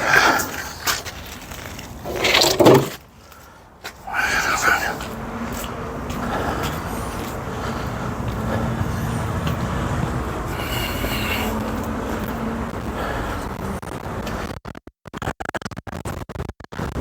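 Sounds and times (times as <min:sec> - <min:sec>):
motor hum: 0:00.0 - 0:14.4.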